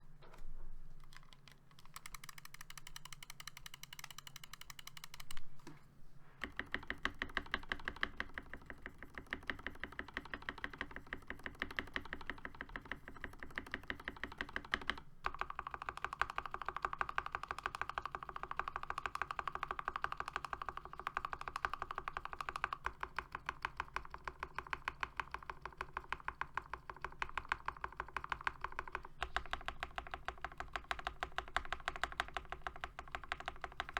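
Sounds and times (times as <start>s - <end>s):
mechanical keyboard typing: 1.0s - 5.5s, 6.4s - 33.9s.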